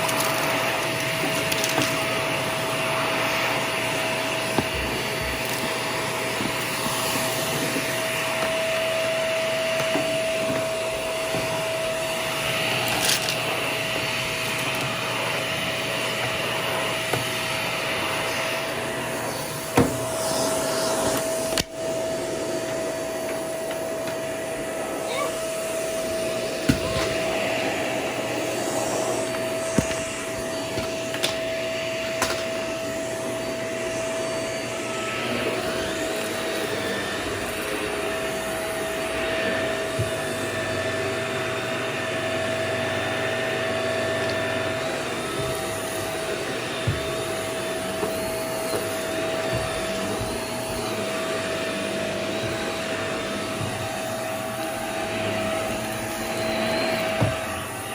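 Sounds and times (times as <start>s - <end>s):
vacuum cleaner whining: 0.0s - 57.9s.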